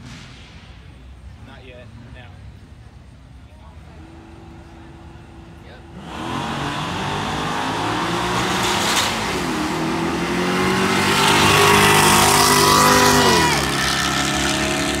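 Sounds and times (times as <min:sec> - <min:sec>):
racing car engines at full throttle: 0:00.0 - 0:15.0.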